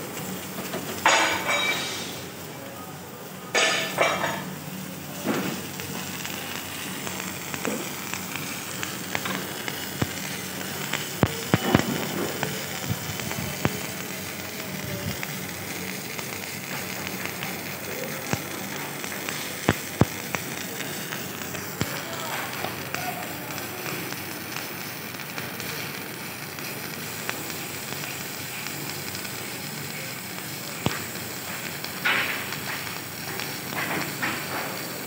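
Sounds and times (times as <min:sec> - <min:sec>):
welding arc crackling: 0:00.0 - 0:35.0.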